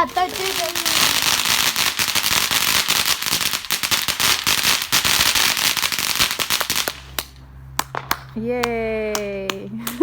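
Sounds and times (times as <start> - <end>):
fireworks crackling: 0.0 - 8.3.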